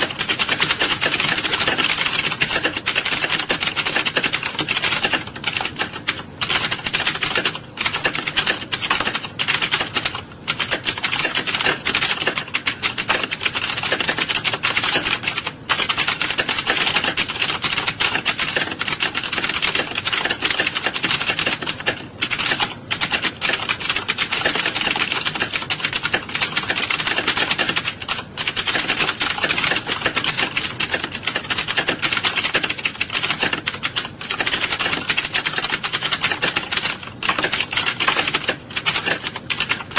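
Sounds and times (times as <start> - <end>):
keyboards clattering: 0.0 - 39.9.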